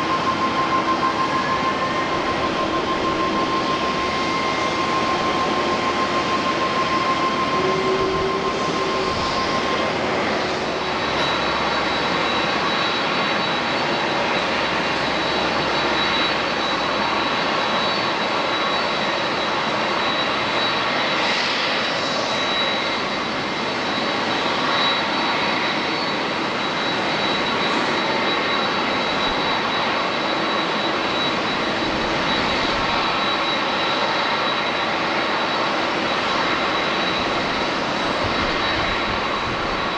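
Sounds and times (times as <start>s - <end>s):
jet engine rush: 0.0s - 39.9s
thin high whine: 0.0s - 39.9s.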